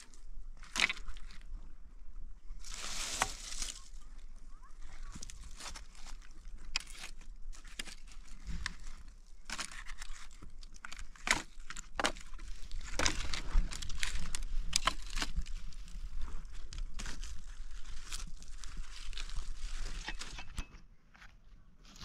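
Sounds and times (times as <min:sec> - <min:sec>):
material crinkling and rustling: 0:02.6 - 0:20.7.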